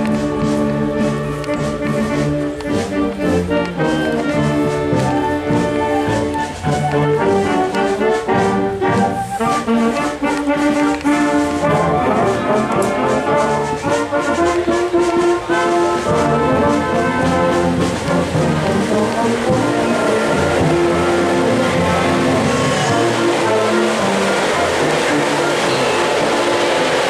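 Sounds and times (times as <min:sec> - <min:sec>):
brass ensemble playing held notes: 0:00.0 - 0:27.0.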